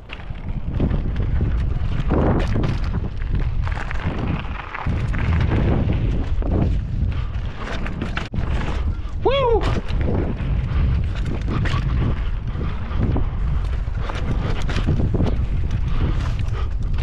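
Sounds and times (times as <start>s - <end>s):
bike knocking and rattling: 0.0s - 17.0s
wind buffeting microphone: 0.0s - 17.0s.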